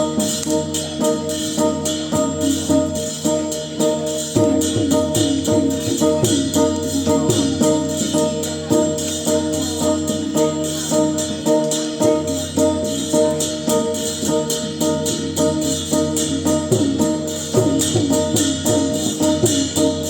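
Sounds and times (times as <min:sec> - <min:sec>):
droning melody: 0:00.0 - 0:20.0
jingling percussion: 0:00.0 - 0:20.0.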